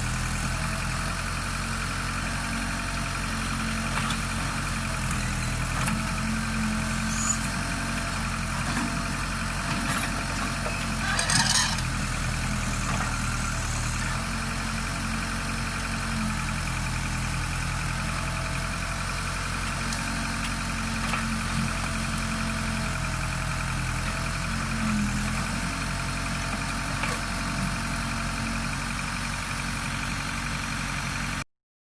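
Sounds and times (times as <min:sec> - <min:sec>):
diesel engine running: 0:00.0 - 0:31.4.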